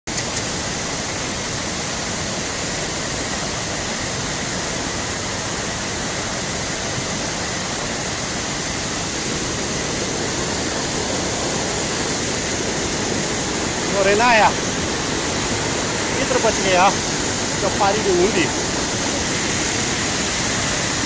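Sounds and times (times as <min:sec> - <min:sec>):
floodwater rushing: 0:00.1 - 0:21.0.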